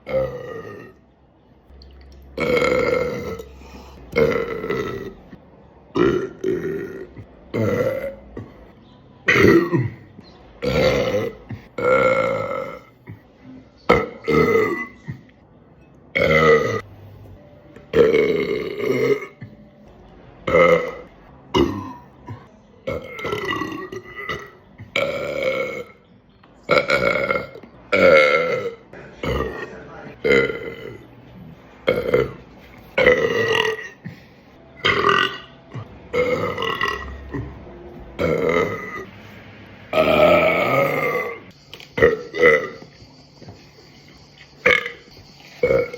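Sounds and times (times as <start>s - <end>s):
person burping loudly: 0.0s - 1.0s, 2.3s - 13.3s, 13.9s - 15.3s, 16.1s - 16.9s, 17.9s - 19.7s, 20.4s - 26.0s, 26.7s - 31.1s, 31.8s - 39.1s, 39.9s - 42.9s, 44.6s - 45.9s.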